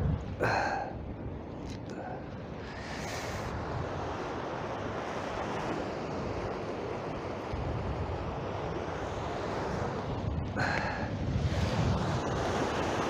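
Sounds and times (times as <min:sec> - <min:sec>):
wind buffeting microphone: 0:00.0 - 0:13.0
sea waves: 0:00.4 - 0:13.0.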